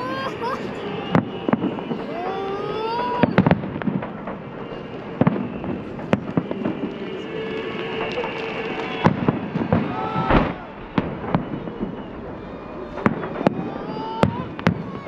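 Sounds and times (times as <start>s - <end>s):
fireworks bursts and crackle: 0.0s - 15.0s
sharp firework bangs: 1.0s - 2.2s, 3.2s - 15.0s.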